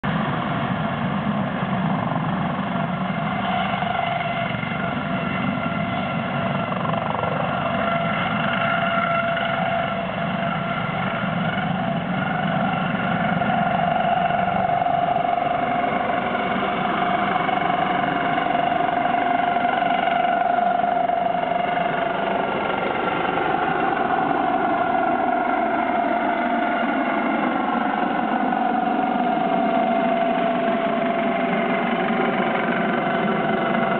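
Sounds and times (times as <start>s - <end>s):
helicopter rotor noise: 0.0s - 33.9s
helicopter turbine whine: 0.0s - 33.9s.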